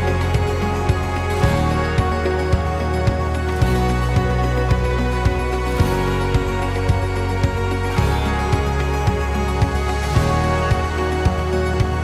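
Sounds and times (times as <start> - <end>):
music with sustained chords and beat: 0.0 - 12.0.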